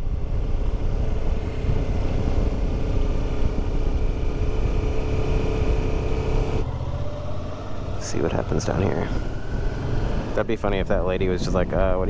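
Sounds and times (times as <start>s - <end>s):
motorcycle engine running: 0.0s - 10.4s
wind rumbling on microphone: 0.0s - 12.0s.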